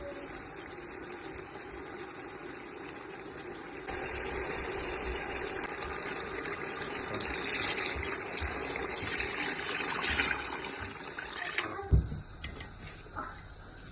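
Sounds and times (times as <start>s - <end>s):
water running: 0.0s - 13.9s.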